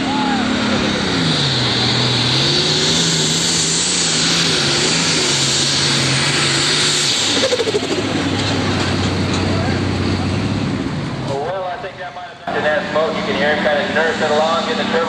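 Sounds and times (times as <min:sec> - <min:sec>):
diesel engine running loud: 0:00.0 - 0:15.0.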